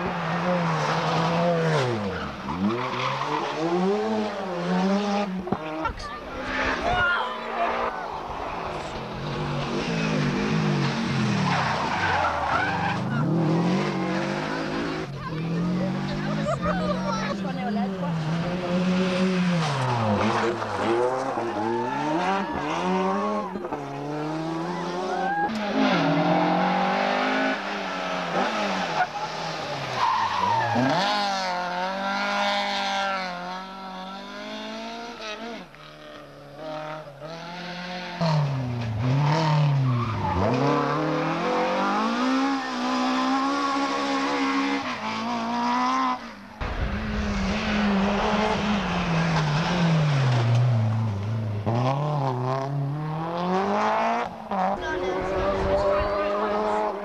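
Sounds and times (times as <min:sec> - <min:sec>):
engines revving hard: 0:00.0 - 0:07.0, 0:07.6 - 0:57.0
rally cars passing at speed: 0:00.0 - 0:57.0.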